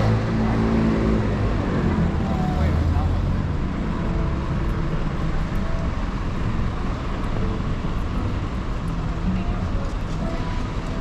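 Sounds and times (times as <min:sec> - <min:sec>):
cars passing: 0:00.0 - 0:11.0
low traffic rumble: 0:00.0 - 0:11.0.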